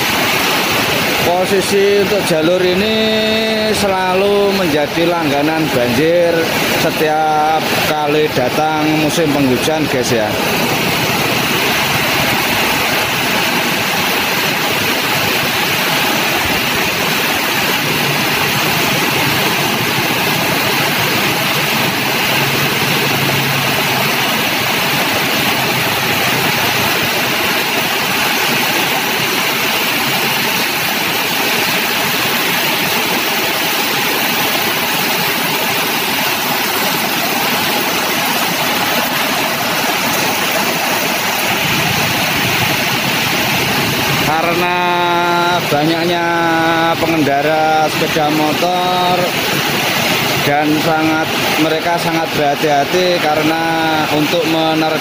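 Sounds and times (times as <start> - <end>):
heavy rain falling: 0.0 - 55.0
tyres splashing through floodwater: 0.0 - 55.0.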